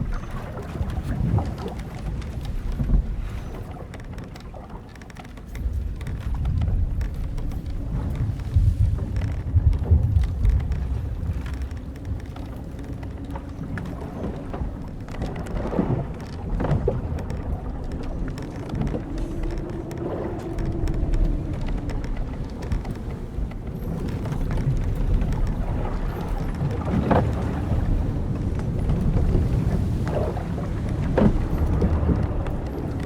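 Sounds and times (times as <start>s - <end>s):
low rumble of wind and sea: 0.0s - 33.0s
wooden ship timbers creaking: 0.0s - 33.0s.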